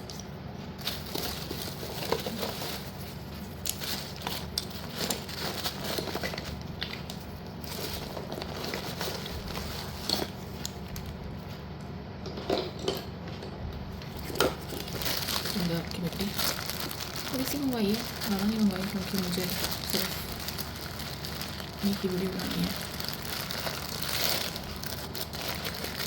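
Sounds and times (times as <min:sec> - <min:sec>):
steady low hum: 0:00.0 - 0:26.0
plastic packaging rustling: 0:00.6 - 0:11.7, 0:14.0 - 0:26.0.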